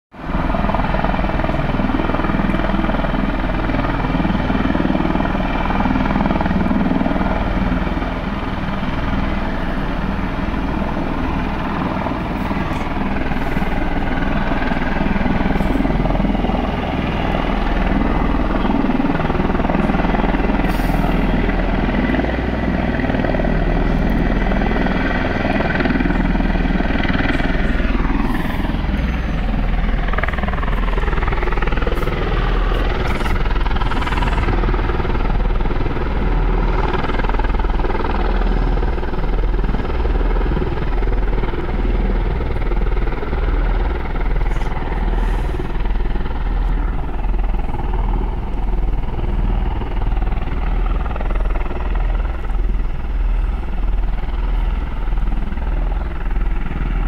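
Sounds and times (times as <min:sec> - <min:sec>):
heavy rotor throb: 0:00.2 - 0:57.0
turbine whine: 0:00.2 - 0:57.0.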